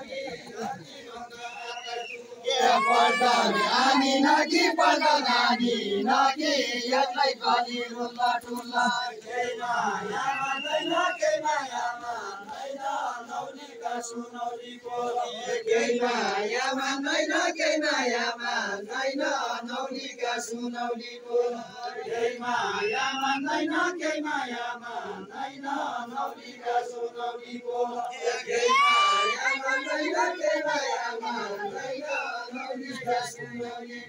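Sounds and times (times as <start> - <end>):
group singing in unison: 0.0 - 34.0.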